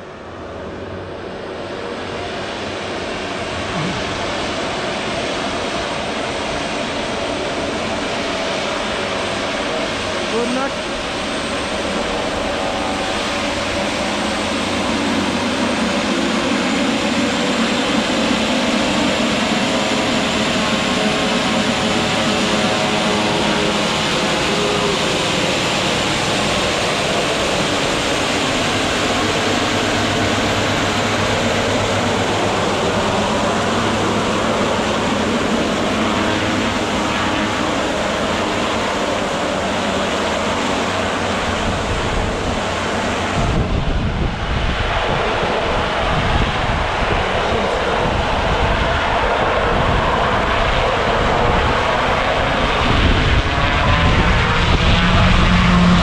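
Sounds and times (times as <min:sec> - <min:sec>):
turboprop engines and propellers: 0:00.0 - 0:56.0.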